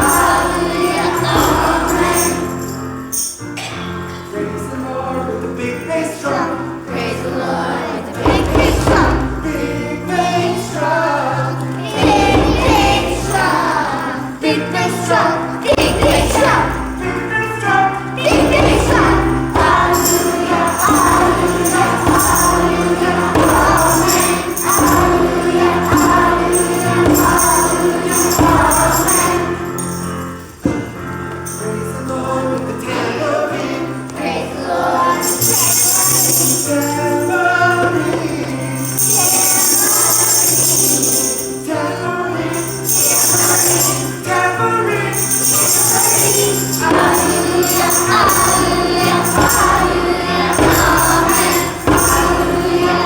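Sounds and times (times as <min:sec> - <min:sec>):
instrumental accompaniment: 0:00.0 - 0:04.5, 0:05.7 - 0:53.0
shaken jingles: 0:00.0 - 0:07.1, 0:08.0 - 0:53.0
children's choir singing: 0:00.0 - 0:53.0.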